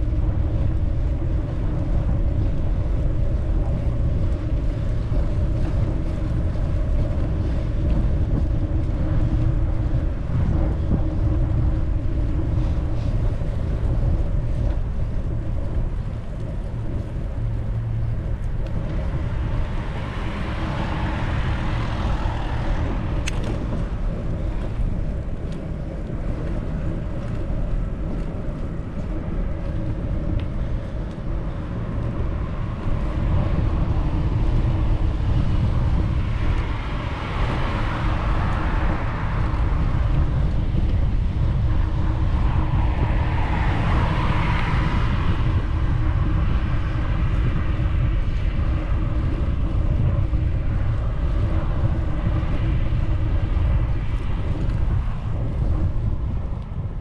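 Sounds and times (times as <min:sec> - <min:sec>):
steady hum: 0:00.0 - 0:57.0
wind buffeting microphone: 0:00.0 - 0:57.0.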